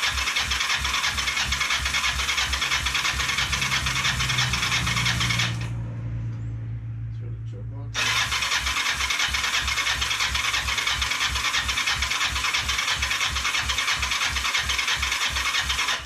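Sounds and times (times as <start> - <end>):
engine cranking on electric starter: 0.0 - 5.8, 8.0 - 16.0.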